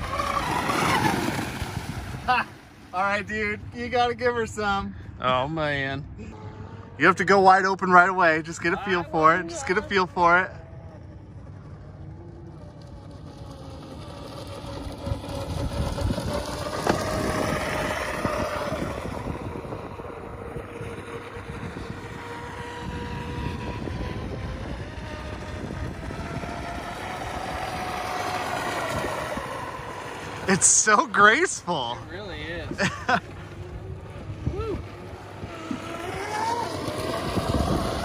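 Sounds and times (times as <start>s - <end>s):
boat electric motor whining: 0.0s - 38.0s
wind rumble on microphone: 0.0s - 38.0s.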